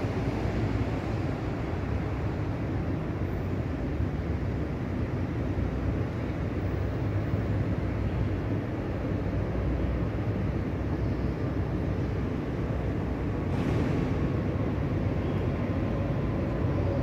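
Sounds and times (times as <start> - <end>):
building machinery hum: 0.0 - 17.0
distant traffic hum: 0.0 - 17.0.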